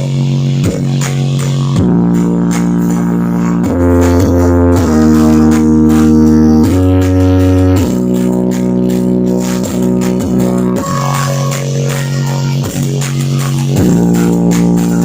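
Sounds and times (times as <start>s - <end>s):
loud music through sound system: 0.0s - 15.0s.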